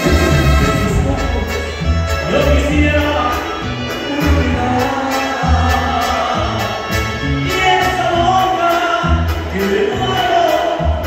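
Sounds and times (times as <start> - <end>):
lead singer: 0.0 - 11.0
live band playing: 0.0 - 11.0.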